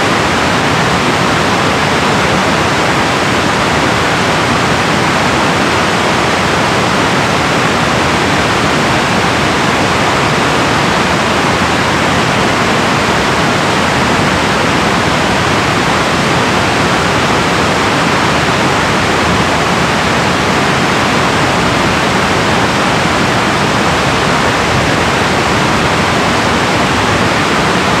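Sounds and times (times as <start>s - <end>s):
water rushing over a dam: 0.0s - 28.0s.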